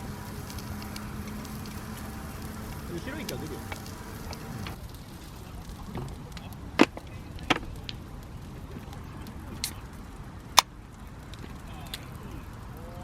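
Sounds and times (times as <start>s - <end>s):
low background hiss: 0.0s - 13.0s.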